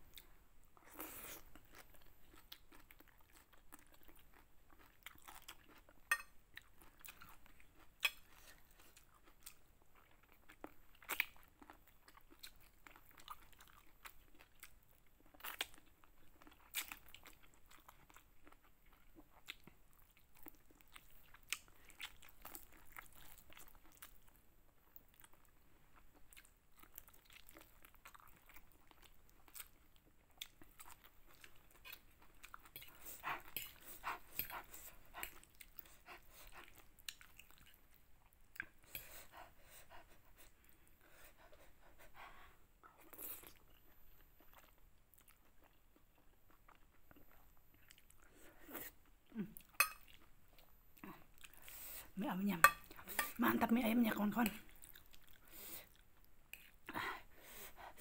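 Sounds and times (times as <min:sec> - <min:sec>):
person chewing and smacking: 0:00.1 - 0:53.4, 0:54.5 - 0:57.0.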